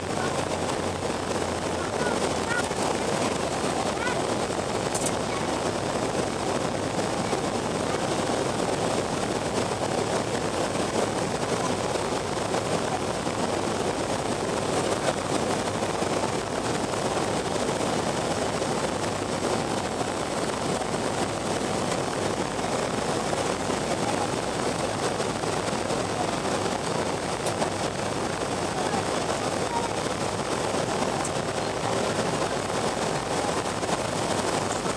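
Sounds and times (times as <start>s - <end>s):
jet engines in airliner cabin: 0.0s - 34.9s
rushing airflow: 0.0s - 34.9s.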